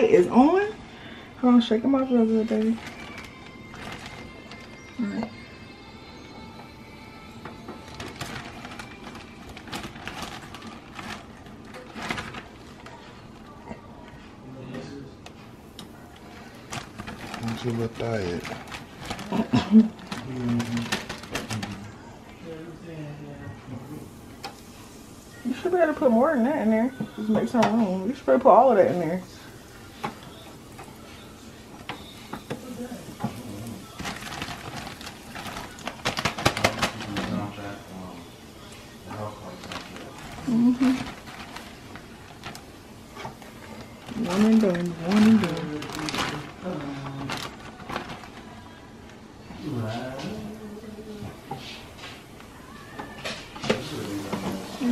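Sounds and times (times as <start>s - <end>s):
plastic bag crinkling: 0.0s - 22.7s, 23.9s - 54.9s.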